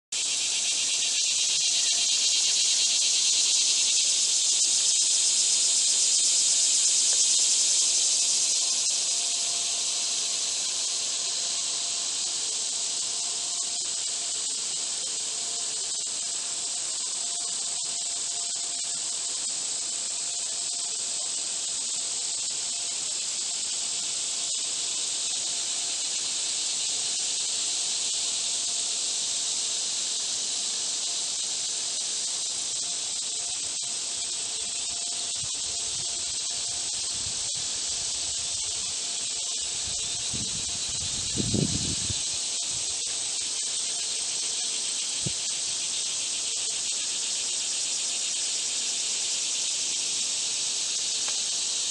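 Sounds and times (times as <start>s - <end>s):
crickets and katydids buzzing: 0.1s - 51.9s.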